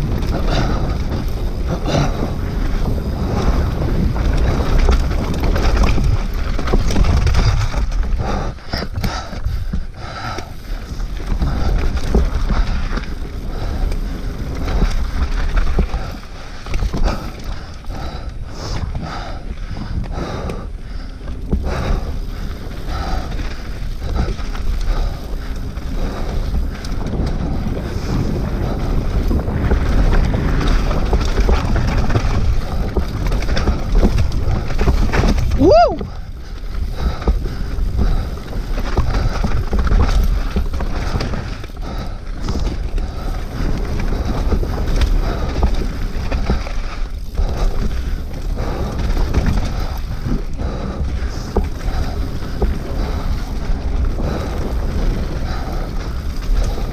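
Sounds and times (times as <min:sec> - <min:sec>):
bike clattering over rocks: 0:00.0 - 0:20.3, 0:21.2 - 0:56.9
bike tyre rumble: 0:00.0 - 0:56.9
wind buffeting microphone: 0:00.0 - 0:56.9.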